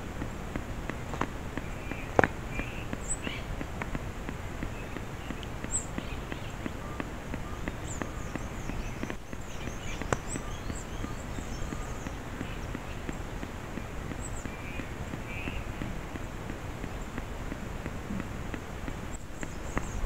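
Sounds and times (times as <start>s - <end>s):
light scattered ticks: 0.0s - 20.0s
small birds chirping: 0.0s - 20.0s.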